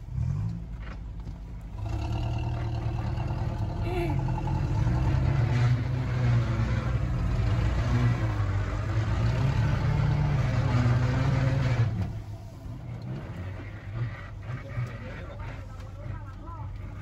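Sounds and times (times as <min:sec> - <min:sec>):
engine running hard with rattling: 0:00.0 - 0:17.0.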